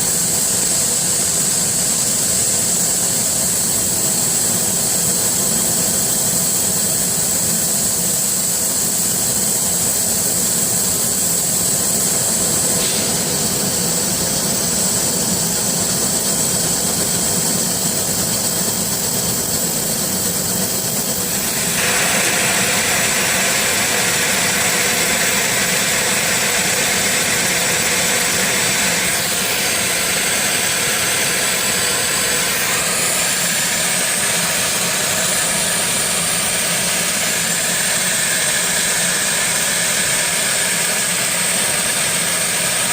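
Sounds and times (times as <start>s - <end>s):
laser cutting machine whirring: 0.0s - 42.9s.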